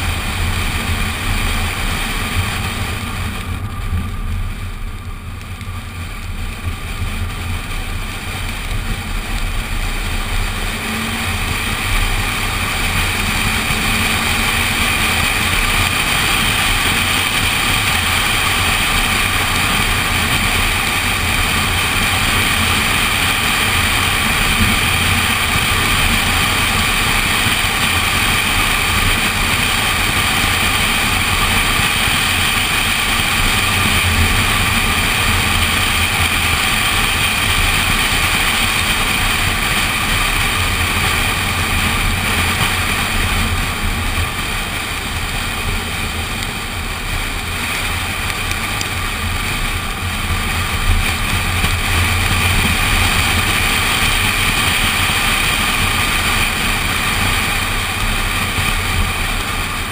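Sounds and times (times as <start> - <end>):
car engine: 0.0 - 59.9
tyre noise on wet road: 0.0 - 59.9
wind noise: 0.0 - 59.9.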